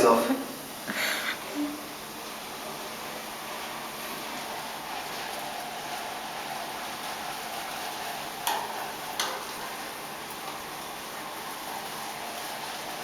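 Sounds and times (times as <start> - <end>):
liquid nitrogen hissing: 0.0 - 13.0.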